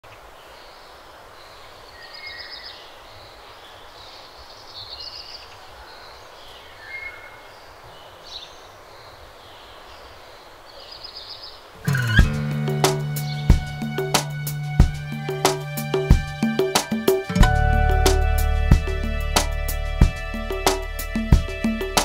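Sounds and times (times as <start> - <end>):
steady background hiss: 0.0 - 22.0
birds chirping and trilling: 0.4 - 22.0.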